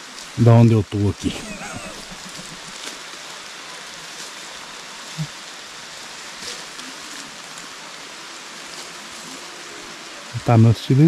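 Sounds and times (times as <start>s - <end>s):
rain falling on leaves: 0.0s - 11.0s.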